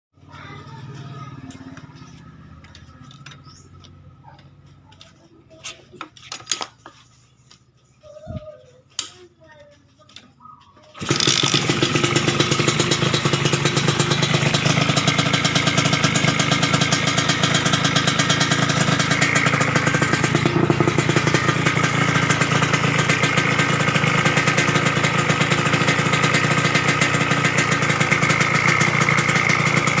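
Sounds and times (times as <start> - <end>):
motorcycle engine running: 0.2 - 6.2, 9.5 - 30.0.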